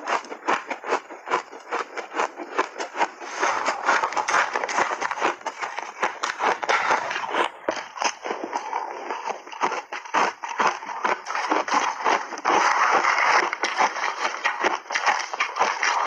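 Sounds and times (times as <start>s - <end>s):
crunching and chewing shaved ice: 0.0s - 16.0s.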